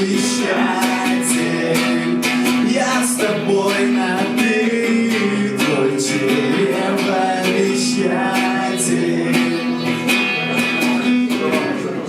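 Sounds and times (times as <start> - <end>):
man singing: 0.0 - 12.0
strummed guitar: 0.0 - 12.0.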